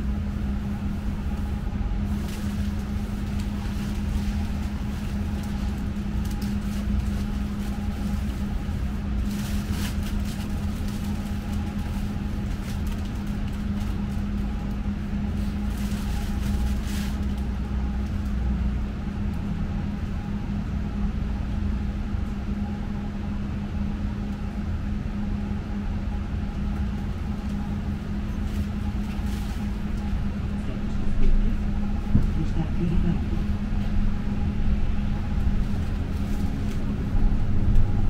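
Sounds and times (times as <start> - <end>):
tram electrical hum and rumble: 0.0 - 38.0.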